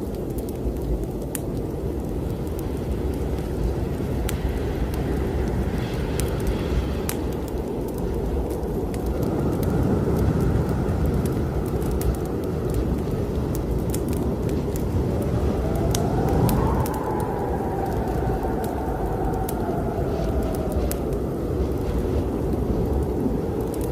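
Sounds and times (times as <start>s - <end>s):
snowstorm wind rushing: 0.0s - 23.9s
whistling wind gust: 0.0s - 23.9s
wood fire crackling and popping: 0.0s - 23.9s.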